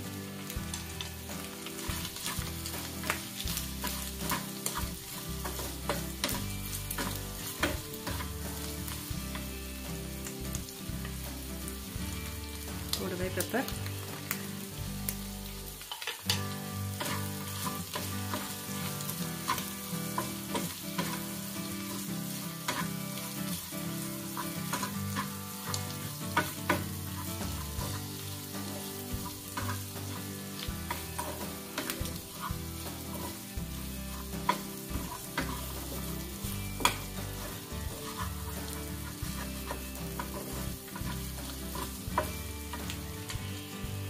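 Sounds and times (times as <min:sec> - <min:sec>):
meat sizzling in a frying pan: 0:00.0 - 0:44.0
wooden spatula scraping a pan: 0:00.4 - 0:10.3, 0:15.8 - 0:43.4.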